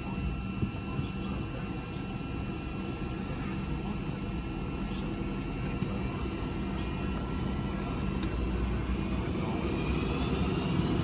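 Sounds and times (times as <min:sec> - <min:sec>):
aircraft engine rumble: 0:00.0 - 0:11.0
faint high whines: 0:00.0 - 0:11.0.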